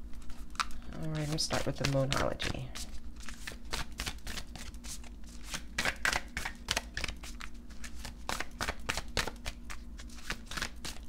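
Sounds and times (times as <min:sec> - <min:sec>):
cards being shuffled: 0:00.1 - 0:11.0.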